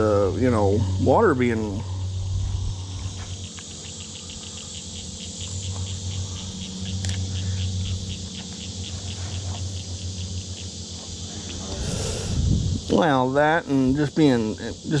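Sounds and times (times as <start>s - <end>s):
low steady rumble: 0.0s - 14.6s
cricket chirping: 0.0s - 15.0s.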